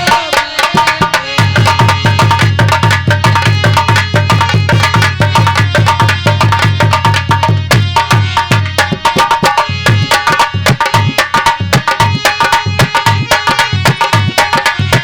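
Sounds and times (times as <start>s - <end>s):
hand drum beating fast: 0.0s - 15.0s.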